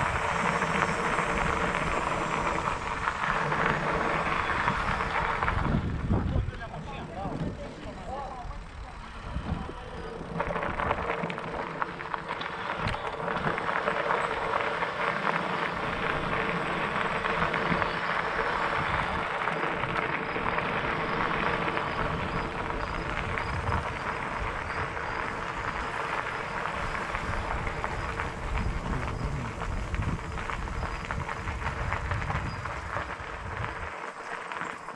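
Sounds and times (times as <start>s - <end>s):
bike tyres crunching over gravel: 0.0s - 34.9s.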